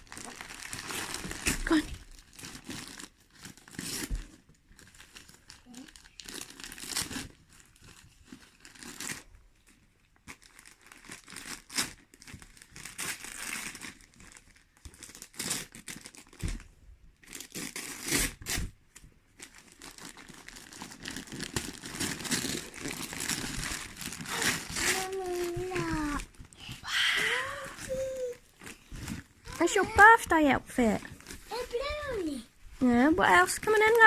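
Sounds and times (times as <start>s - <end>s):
wrapping paper tearing and crumpling: 0.0s - 34.0s.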